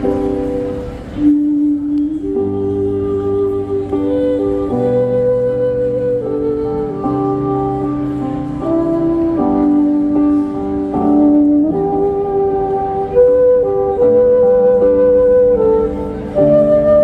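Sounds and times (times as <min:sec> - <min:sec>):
slow instrumental melody: 0:00.0 - 0:17.0.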